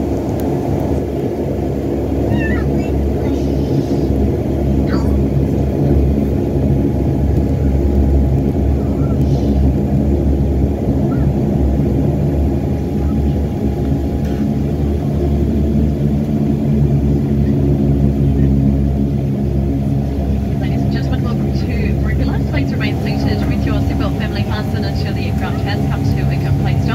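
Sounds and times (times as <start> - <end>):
turboprop engines droning: 0.0 - 26.9.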